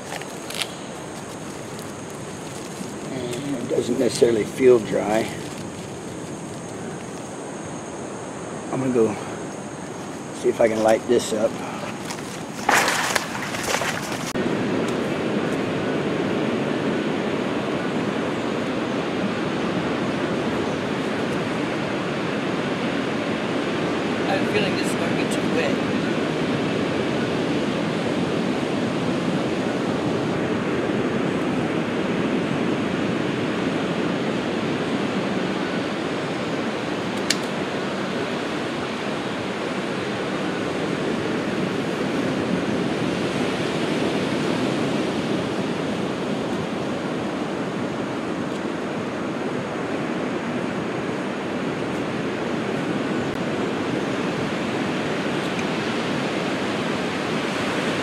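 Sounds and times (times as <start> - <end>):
ocean surf washing onto beach: 0.0 - 58.0.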